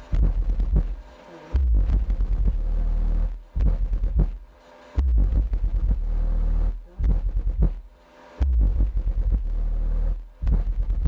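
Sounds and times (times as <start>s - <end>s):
subwoofer playing deep bass: 0.0s - 11.0s.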